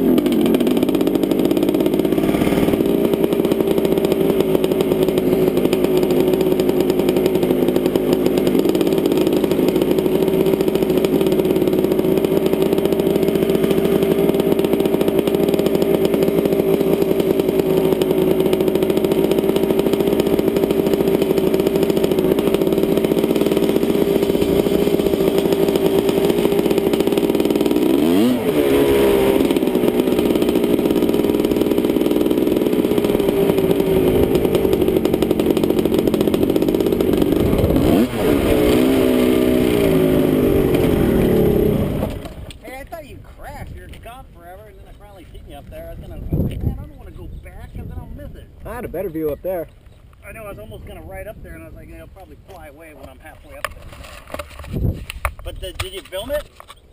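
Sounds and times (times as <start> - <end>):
helicopter running: 0.0 - 49.7, 50.3 - 53.8.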